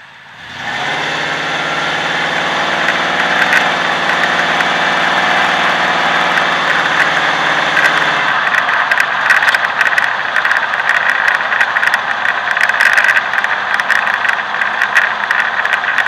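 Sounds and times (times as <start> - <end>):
truck engine and exhaust: 0.0 - 16.0.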